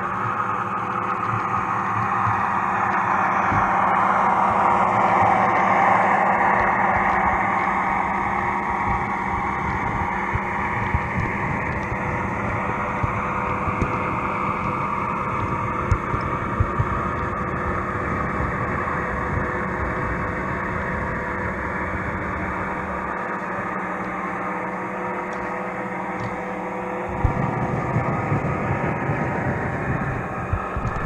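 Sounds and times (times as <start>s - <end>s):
wheel rumble: 0.0s - 31.0s.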